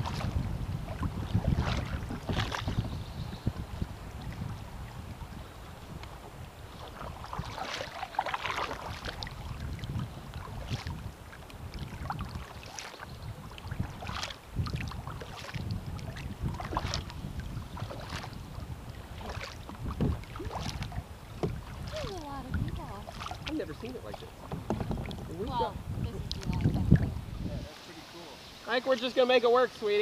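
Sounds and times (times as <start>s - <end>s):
wind rumble on microphone: 0.0s - 27.7s
paddle strokes splashing: 0.0s - 30.0s
water lapping hull: 0.0s - 30.0s.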